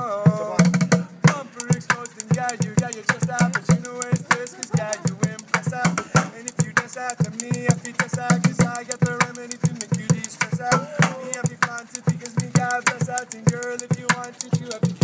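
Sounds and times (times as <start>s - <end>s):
sticks drumming on plastic buckets: 0.6s - 15.0s.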